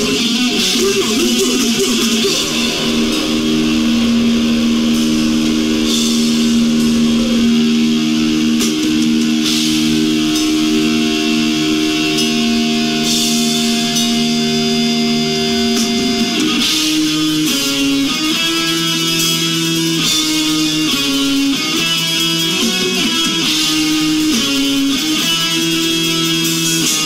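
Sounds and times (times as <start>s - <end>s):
metal band electric guitars: 0.0s - 27.0s.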